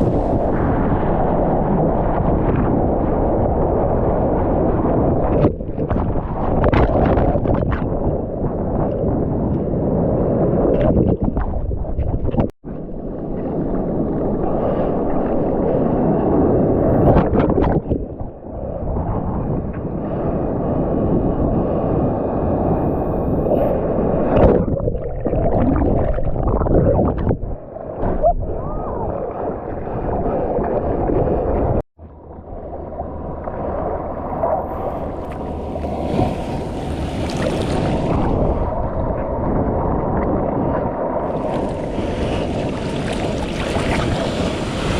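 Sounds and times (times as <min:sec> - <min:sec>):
muffled surf and water sloshing: 0:00.0 - 0:44.9.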